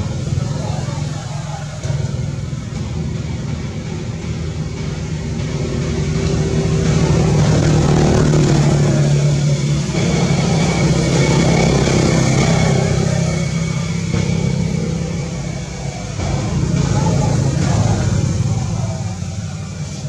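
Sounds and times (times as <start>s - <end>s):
motor engine humming: 0.0s - 20.0s.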